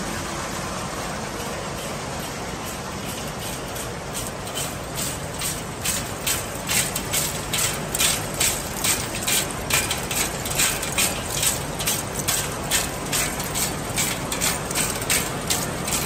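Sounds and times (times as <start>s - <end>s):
shredding machine running: 0.0s - 16.0s.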